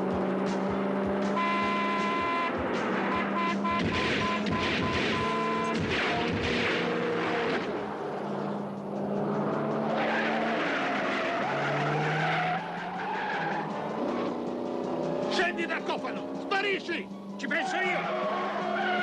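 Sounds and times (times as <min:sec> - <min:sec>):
car engine running hard: 0:00.0 - 0:19.0
car tyres screeching: 0:00.0 - 0:19.0.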